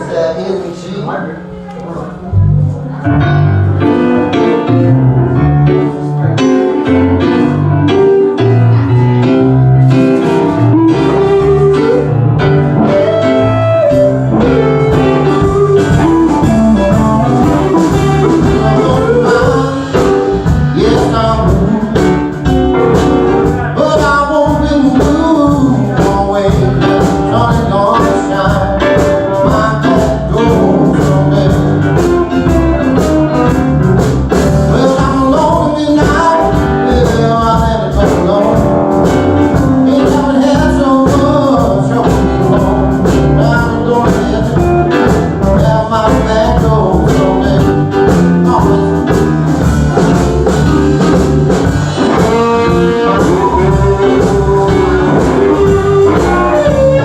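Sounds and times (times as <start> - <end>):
electric guitar: 1.4 - 57.0
live blues band: 1.4 - 57.0
person singing: 5.6 - 12.2, 12.8 - 33.7, 34.4 - 49.3, 51.6 - 57.0.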